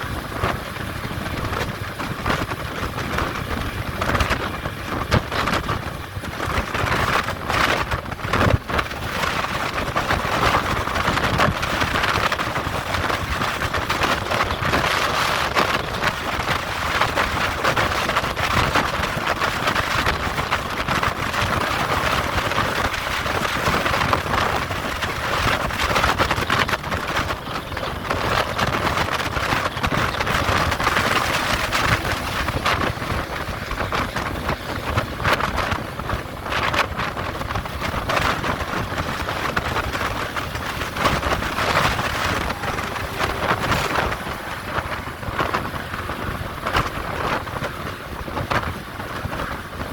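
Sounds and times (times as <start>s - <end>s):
strong wind rushing: 0.0s - 49.9s
vehicle running: 0.0s - 49.9s.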